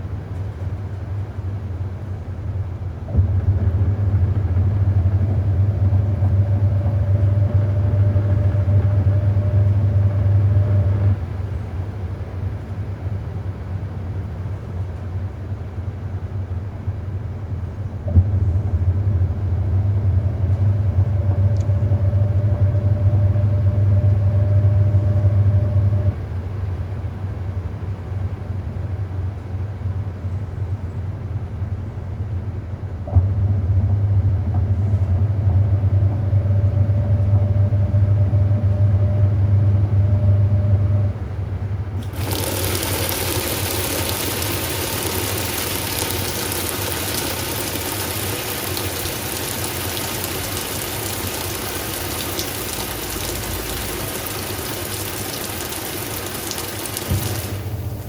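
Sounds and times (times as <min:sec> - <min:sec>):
washing machine motor humming: 0:00.0 - 0:14.5, 0:15.2 - 0:30.2, 0:31.2 - 0:58.0
steady background hum: 0:00.0 - 0:58.0.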